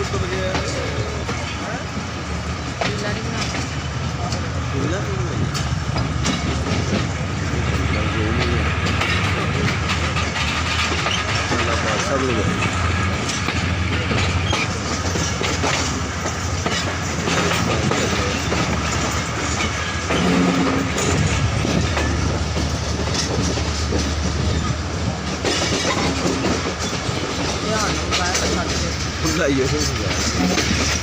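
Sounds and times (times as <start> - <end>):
train rumbling and rattling: 0.0 - 31.0.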